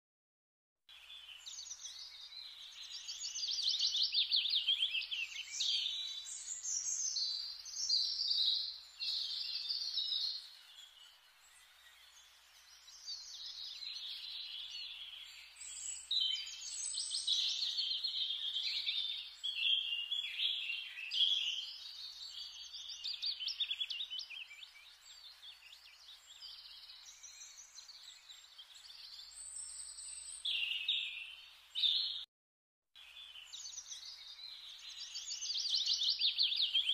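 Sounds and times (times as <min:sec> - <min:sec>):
birds chirping and singing: 0:00.9 - 0:32.2, 0:33.1 - 0:36.9.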